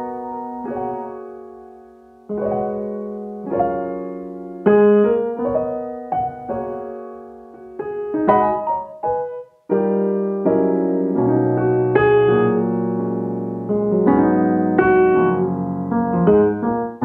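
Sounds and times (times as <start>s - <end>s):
keyboard chords ringing: 0.0s - 17.0s.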